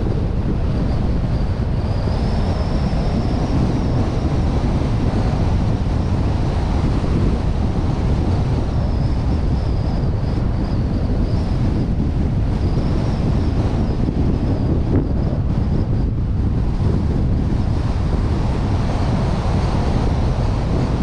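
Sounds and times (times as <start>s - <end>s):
faint high whine: 0.0s - 21.0s
wind rush on microphone: 0.0s - 21.0s.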